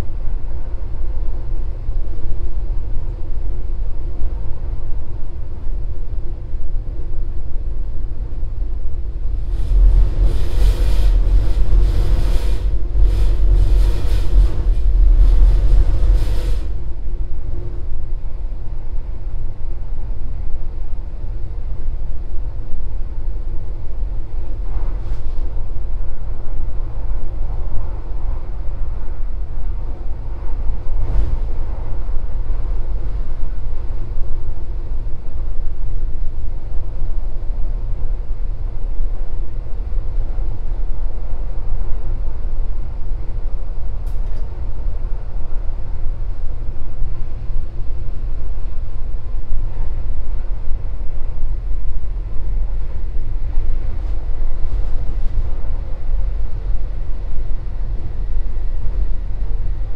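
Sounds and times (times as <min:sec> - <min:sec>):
faint motor hum: 0:00.0 - 0:59.9
train cabin low rumble: 0:00.0 - 0:59.9.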